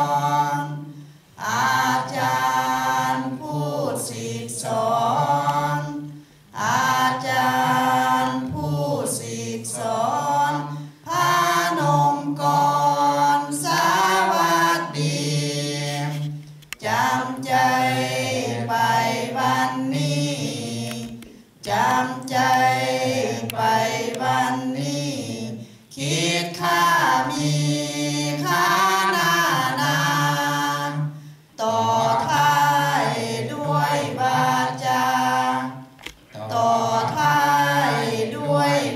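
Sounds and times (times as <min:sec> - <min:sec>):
group chanting: 0:00.0 - 0:38.9.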